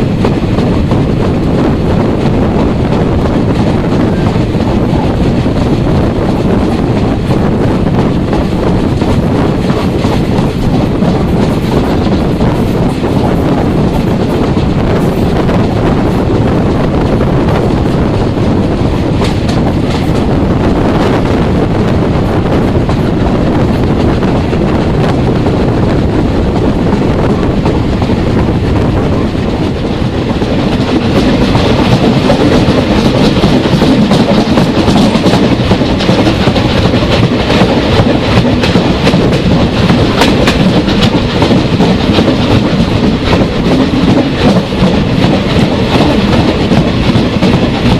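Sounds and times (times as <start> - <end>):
train wheels clicking over rail joints: 0.0 - 21.4, 22.0 - 47.9.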